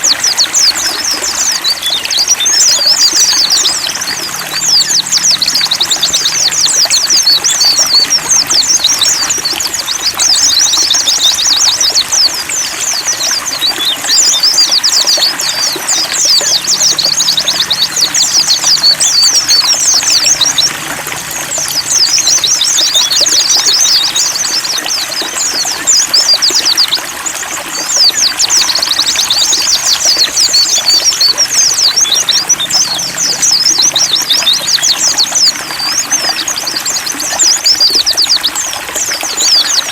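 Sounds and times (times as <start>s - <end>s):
high twittering birdsong: 0.0s - 39.9s
trickling water: 0.0s - 39.9s.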